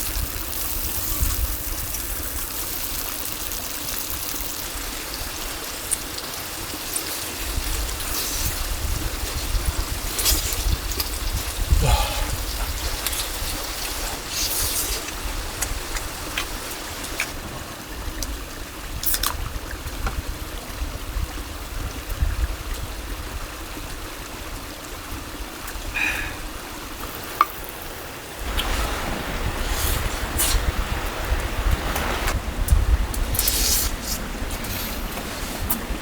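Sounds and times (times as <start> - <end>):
mountain stream flowing: 0.0 - 36.0.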